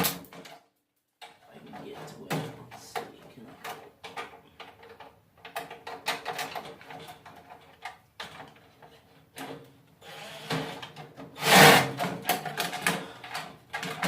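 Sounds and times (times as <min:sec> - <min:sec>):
small metal clicks and knocks: 0:00.3 - 0:09.7, 0:12.0 - 0:14.0.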